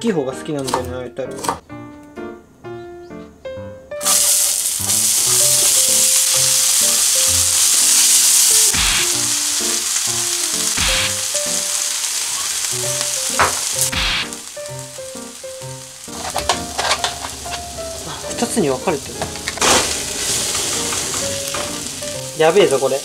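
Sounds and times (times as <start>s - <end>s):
onion sizzling in a frying pan: 4.0s - 23.0s.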